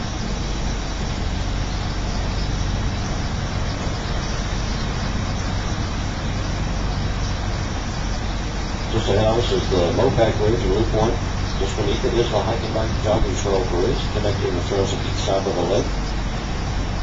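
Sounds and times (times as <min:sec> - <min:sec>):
boat motor humming: 0:00.0 - 0:17.0
water rushing: 0:00.0 - 0:17.0.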